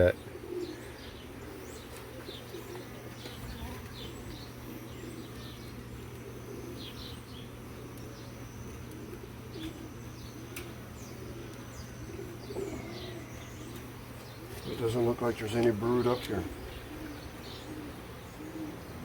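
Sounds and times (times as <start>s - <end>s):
bees buzzing: 0.0s - 19.0s
faint bird chirps: 0.0s - 19.0s.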